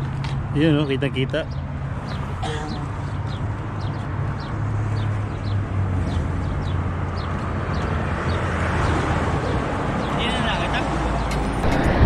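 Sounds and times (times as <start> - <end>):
birds chirping: 0.6 - 11.5.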